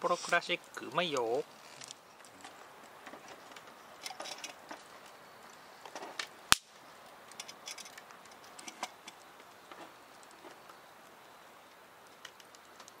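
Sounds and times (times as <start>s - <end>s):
faint hiss: 0.0s - 13.0s
wood fire crackling: 0.0s - 13.0s.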